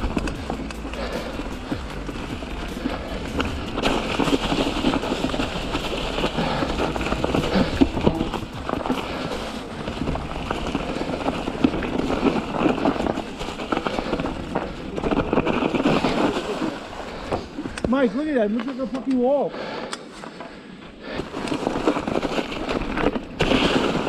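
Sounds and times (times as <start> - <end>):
mountain bike rattling over rocks: 0.0 - 19.4, 21.1 - 24.0.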